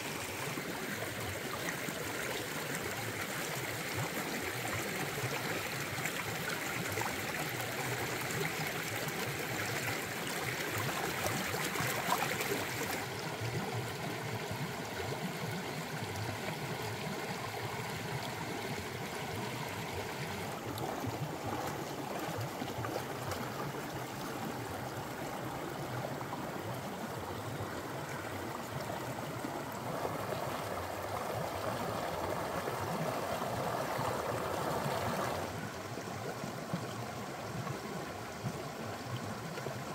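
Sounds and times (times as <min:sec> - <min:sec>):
stream splashing over stones: 0:00.0 - 0:15.4, 0:16.6 - 0:39.9.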